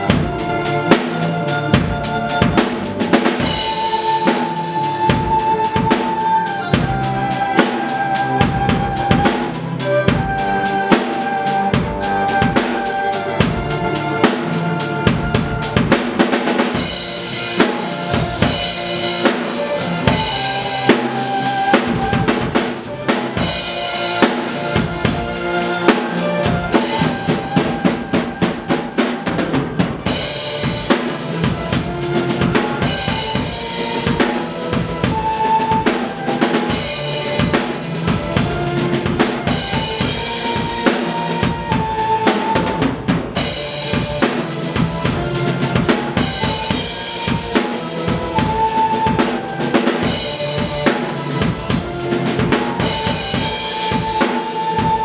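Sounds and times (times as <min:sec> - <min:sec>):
drum kit playing rock beat: 0:00.0 - 0:55.0
recorded song with melody: 0:00.0 - 0:55.0.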